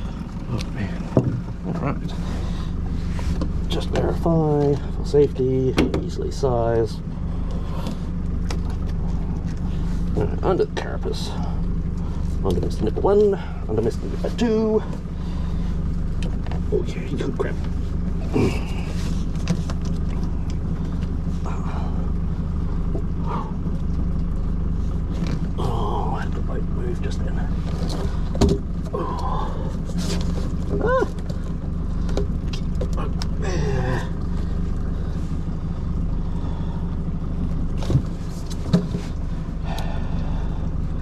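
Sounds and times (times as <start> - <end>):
outboard motor idling: 0.0 - 41.0.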